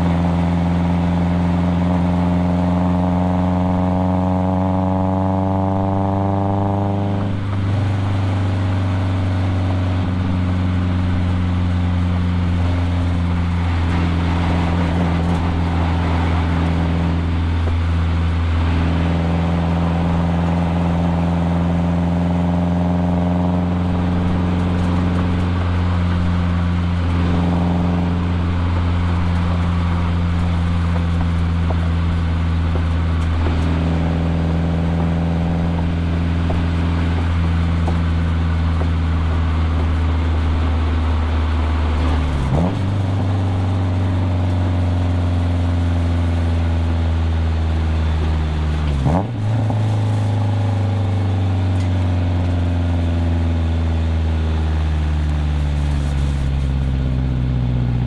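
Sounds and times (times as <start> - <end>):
car engine running under way: 0.0 - 58.0
gear changes: 0.0 - 58.0.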